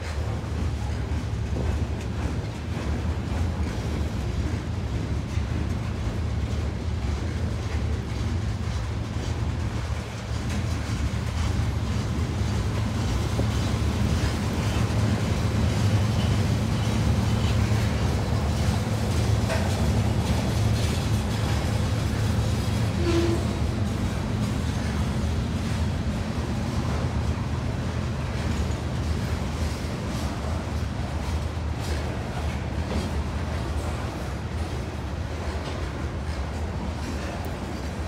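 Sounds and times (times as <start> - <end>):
freight train low rumble: 0.0 - 38.0
steel wheels clicking on rails: 0.0 - 38.0.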